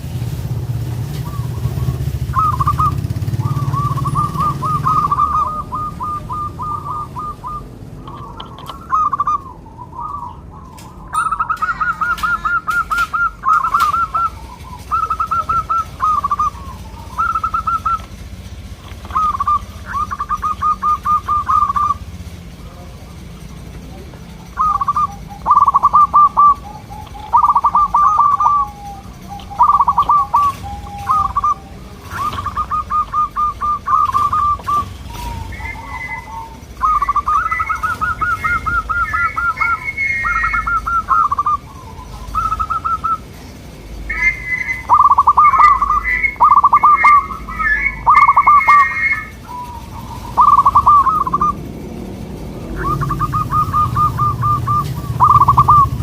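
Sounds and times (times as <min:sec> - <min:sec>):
doves cooing: 0:00.0 - 0:56.0
higher-pitched dove calling: 0:00.7 - 0:56.0.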